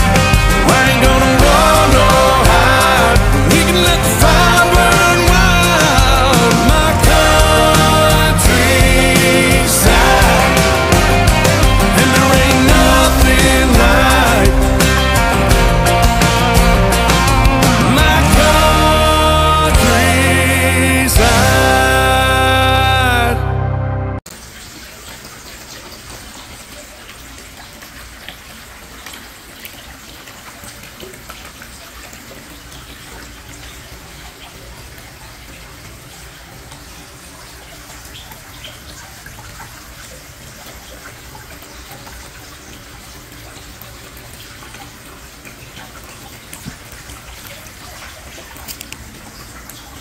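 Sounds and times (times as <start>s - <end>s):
water trickling and splashing: 0.0s - 21.5s, 24.3s - 50.0s.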